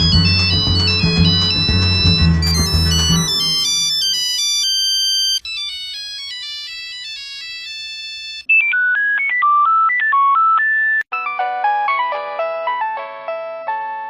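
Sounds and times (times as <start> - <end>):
electronic ringtone melodies: 0.0 - 12.5.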